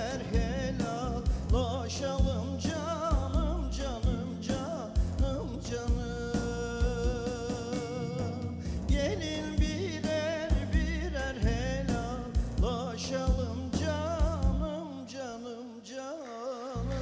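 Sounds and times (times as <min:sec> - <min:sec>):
steady drum beat: 0:00.0 - 0:14.7
bass: 0:00.0 - 0:14.8, 0:16.8 - 0:17.0.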